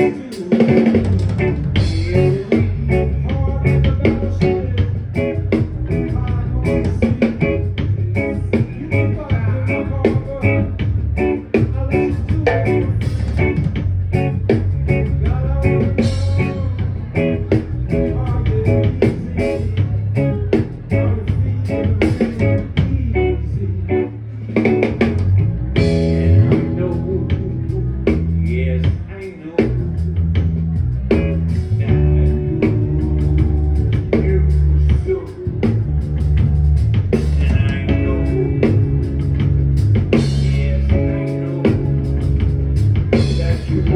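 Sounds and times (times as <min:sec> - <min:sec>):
bass guitar: 0:00.0 - 0:43.9
drum kit: 0:00.0 - 0:43.9
electric guitar: 0:00.0 - 0:43.9.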